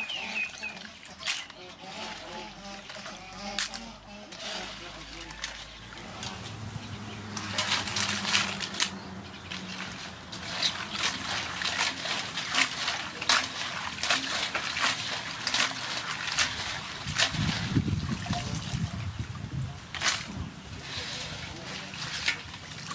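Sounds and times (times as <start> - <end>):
water sloshing and splashing: 0.0 - 22.9.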